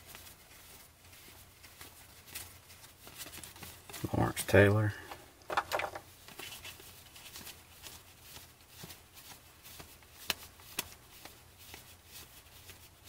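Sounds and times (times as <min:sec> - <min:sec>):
trading cards rustling: 0:00.0 - 0:13.0.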